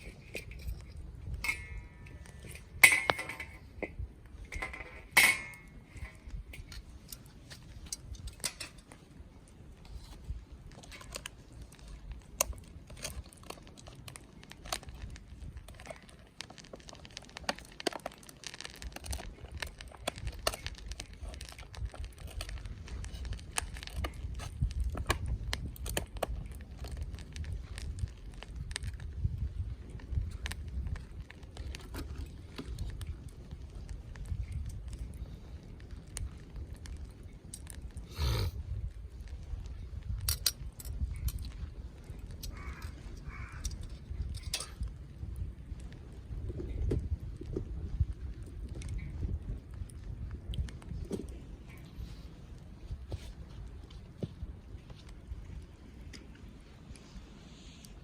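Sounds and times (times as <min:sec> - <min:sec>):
campfire wood crackling: 0:00.0 - 0:58.0.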